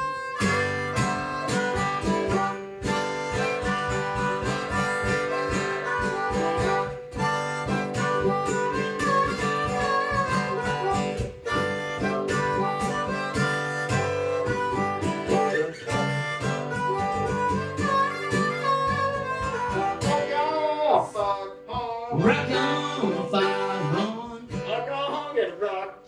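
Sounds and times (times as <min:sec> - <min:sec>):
lead melody line: 0:00.0 - 0:21.0
strummed guitar: 0:00.0 - 0:26.0.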